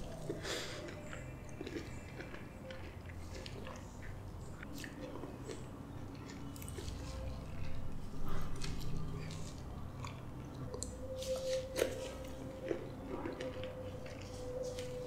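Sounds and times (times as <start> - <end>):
chewing soft fruit: 0.0 - 15.0.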